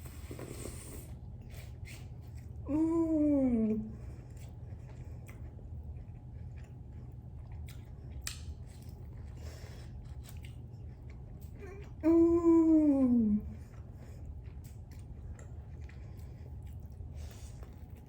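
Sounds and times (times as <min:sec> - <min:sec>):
person chewing food: 0:00.0 - 0:02.8, 0:03.6 - 0:18.0
steady low hum: 0:00.0 - 0:18.0.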